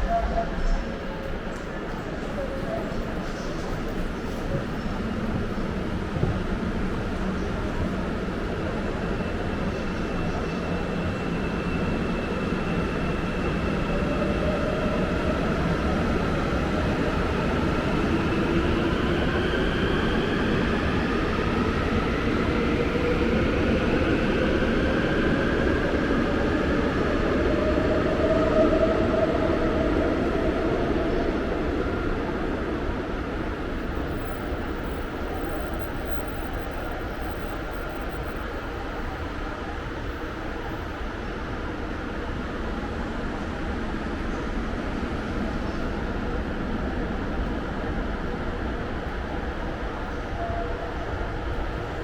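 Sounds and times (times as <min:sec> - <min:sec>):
electric train rumble: 0:00.0 - 0:52.0.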